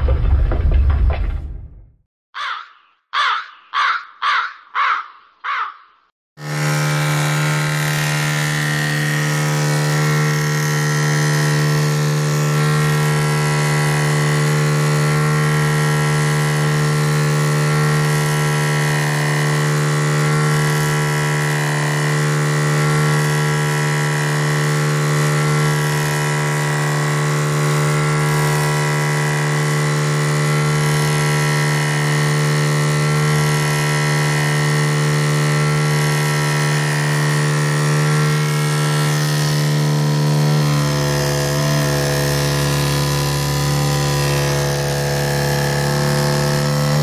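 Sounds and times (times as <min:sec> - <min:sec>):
small electric motor humming: 0:06.4 - 0:47.0.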